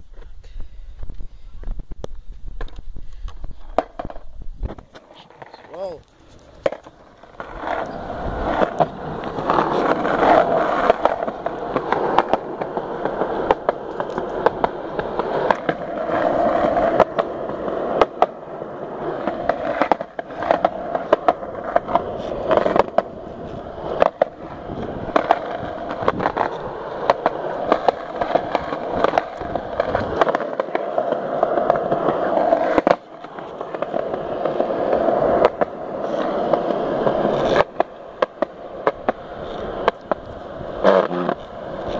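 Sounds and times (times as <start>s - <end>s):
skateboard wheels rolling on concrete: 0.0s - 41.9s
skateboard clacks: 1.6s - 41.9s.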